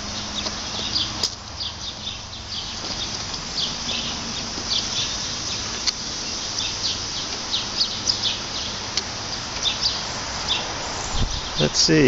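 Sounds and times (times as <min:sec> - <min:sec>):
outdoor hiss: 0:00.0 - 0:12.0
small birds chirping: 0:00.0 - 0:12.0.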